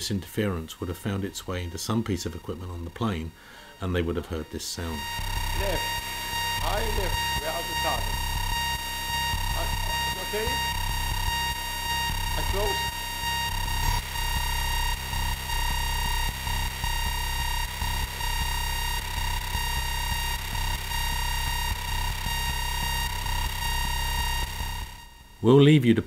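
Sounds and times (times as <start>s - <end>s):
low pulsing hum: 0.0s - 25.4s
steady electronic whine: 0.0s - 26.0s.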